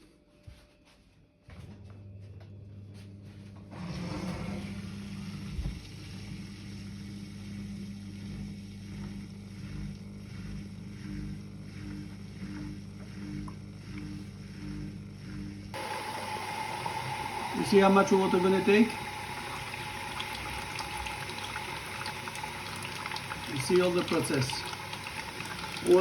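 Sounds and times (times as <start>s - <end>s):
dishwasher electric hum: 0.0s - 26.0s.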